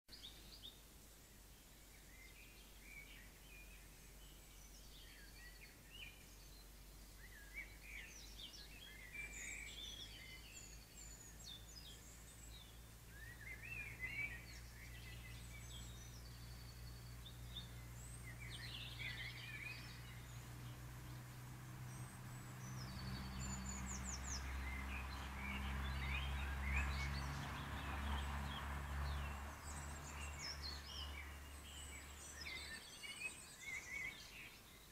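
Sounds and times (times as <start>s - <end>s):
birds chirping: 0.1s - 34.9s
low steady hum: 0.1s - 34.9s.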